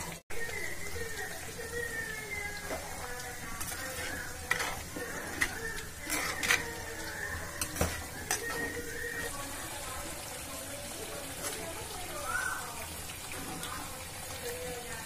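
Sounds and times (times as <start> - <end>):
pot sizzling: 0.0 - 15.0
ladle stirring thick gravy: 1.2 - 14.7.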